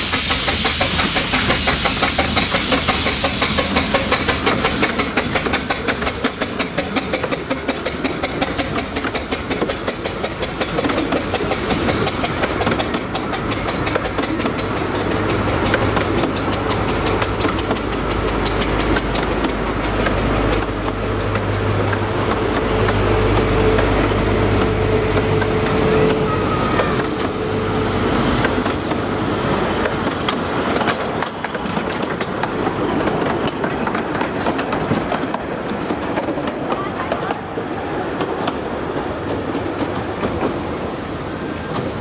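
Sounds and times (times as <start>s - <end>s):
steam locomotive rumble and tone: 0.0s - 42.0s
train carriages rolling past: 0.0s - 42.0s
wheels clicking over rail joints: 0.1s - 27.4s, 28.4s - 40.8s.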